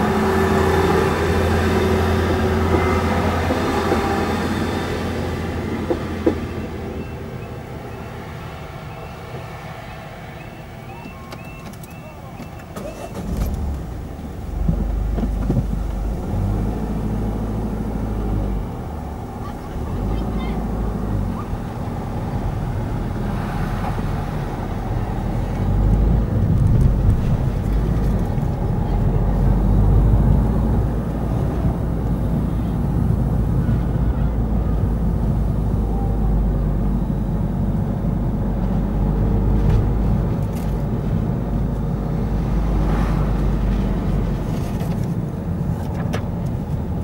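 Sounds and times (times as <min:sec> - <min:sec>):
diesel train rumble: 0:00.0 - 0:47.0.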